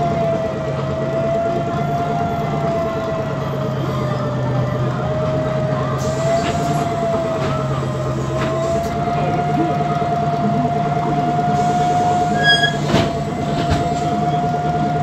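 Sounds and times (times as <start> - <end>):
bus engine and drivetrain hum: 0.0 - 15.0.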